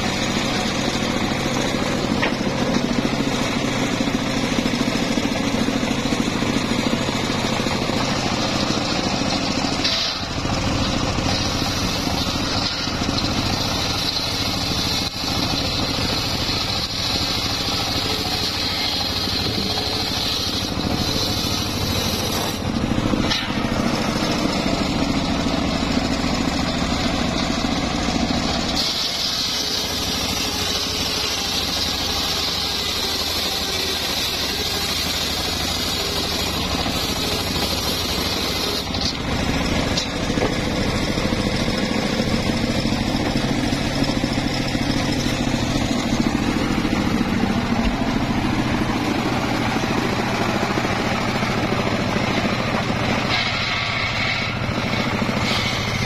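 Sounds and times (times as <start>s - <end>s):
circular saw running: 0.0s - 56.0s
high cutting whine: 0.0s - 56.0s.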